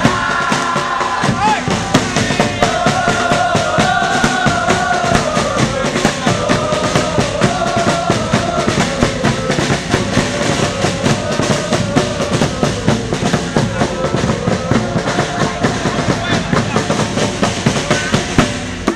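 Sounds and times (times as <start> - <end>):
fast dense drumming: 0.0 - 18.9.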